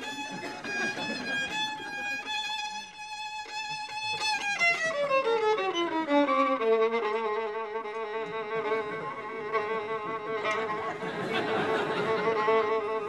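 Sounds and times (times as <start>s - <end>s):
violin playing with vibrato: 0.0s - 13.0s.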